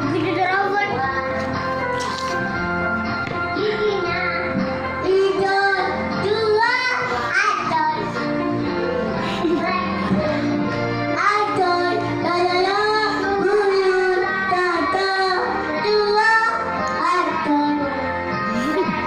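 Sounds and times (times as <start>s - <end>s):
child singing: 0.0s - 1.4s, 3.5s - 8.2s, 9.4s - 19.0s
musical accompaniment: 0.0s - 19.0s.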